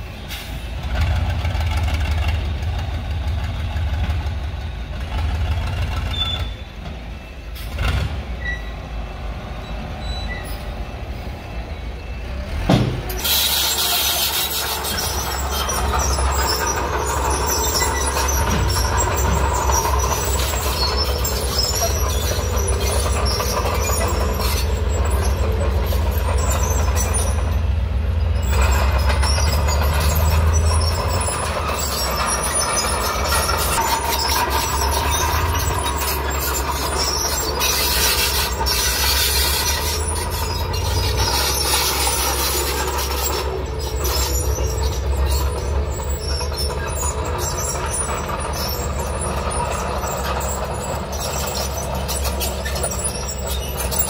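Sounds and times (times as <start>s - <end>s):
diesel engine under load: 0.0s - 54.0s
steel tracks squealing and clanking: 0.0s - 54.0s.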